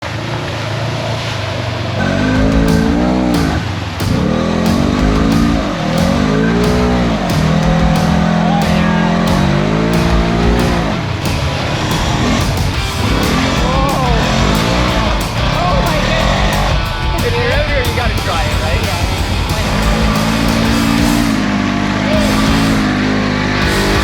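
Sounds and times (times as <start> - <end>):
off-road vehicle engine revving: 2.0 - 17.7, 18.8 - 24.0
music with steady beat: 2.0 - 23.0, 23.6 - 24.0.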